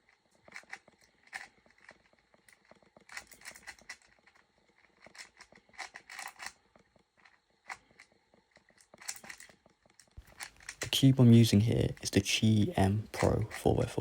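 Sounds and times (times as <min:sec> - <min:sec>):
plastic puzzle cube clacking: 0:00.0 - 0:14.0.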